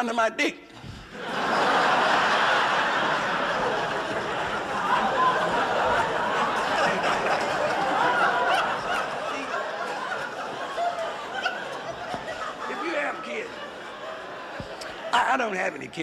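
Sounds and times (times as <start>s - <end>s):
audience laughing: 1.1s - 16.0s.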